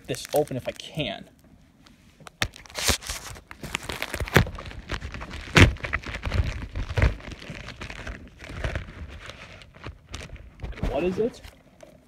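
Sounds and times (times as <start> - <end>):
packaging crinkling and tearing: 0.0 - 1.4, 2.3 - 11.6.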